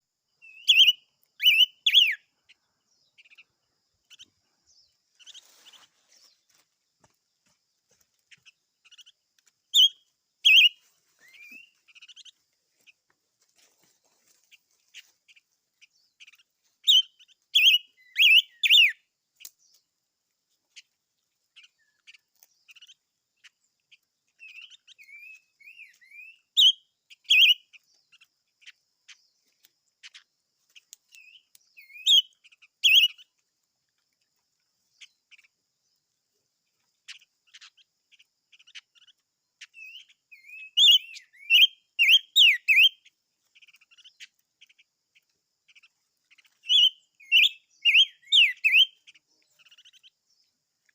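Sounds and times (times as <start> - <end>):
songbird chirping and twittering: 0.0 - 50.9.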